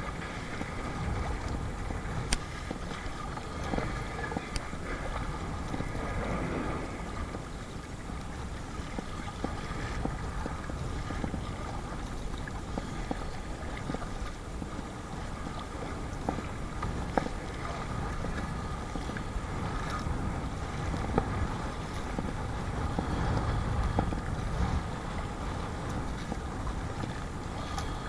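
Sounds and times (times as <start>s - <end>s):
water slapping against kayak: 0.0s - 28.0s
wind buffeting microphone: 0.0s - 28.0s.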